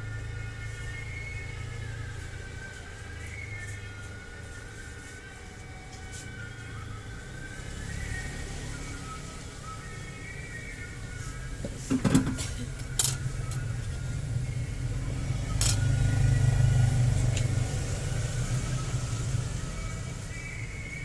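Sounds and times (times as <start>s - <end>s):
low engine-like hum: 0.0s - 21.0s.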